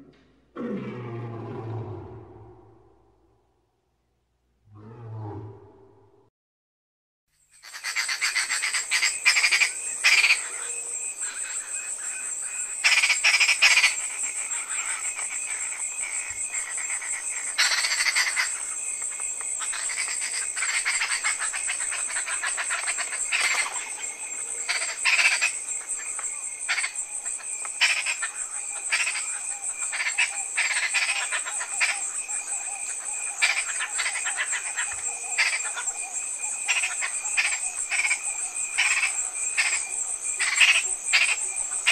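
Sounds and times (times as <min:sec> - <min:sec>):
frogs croaking: 0:07.4 - 0:41.9
high-pitched insect trill: 0:07.4 - 0:41.9.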